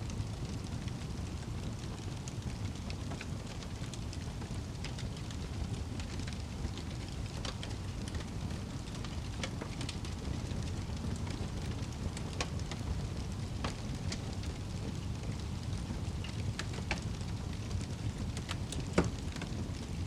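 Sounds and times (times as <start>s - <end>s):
fireplace flames rumbling: 0.0s - 20.0s
wood crackling and popping: 0.0s - 20.0s.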